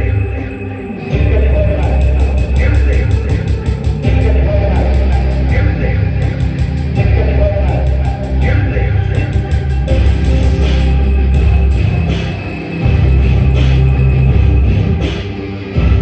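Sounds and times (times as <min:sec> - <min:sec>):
rock band playing: 0:01.2 - 0:16.0.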